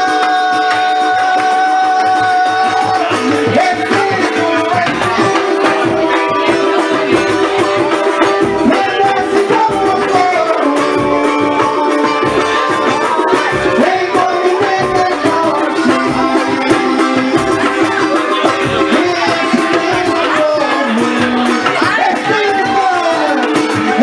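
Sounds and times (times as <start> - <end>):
hand drums beat: 0.0 - 24.0
held melody lines: 0.0 - 24.0.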